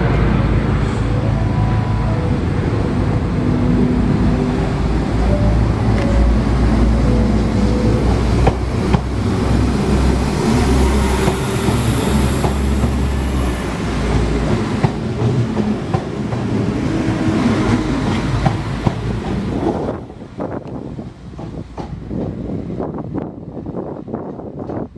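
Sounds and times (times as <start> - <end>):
diesel train engine drone: 0.0 - 24.9.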